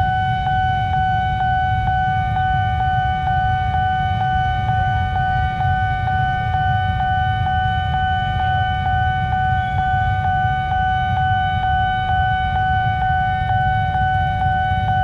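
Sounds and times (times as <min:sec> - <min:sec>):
level crossing alarm tone: 0:00.0 - 0:15.0.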